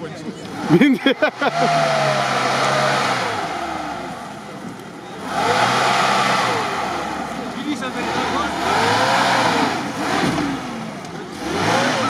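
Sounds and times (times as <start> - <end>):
engine revving hard: 0.4 - 12.0.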